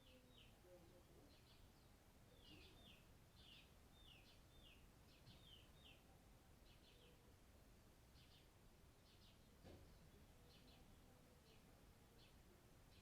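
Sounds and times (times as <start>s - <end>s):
small bird chirping: 0.0s - 7.4s, 8.1s - 13.0s.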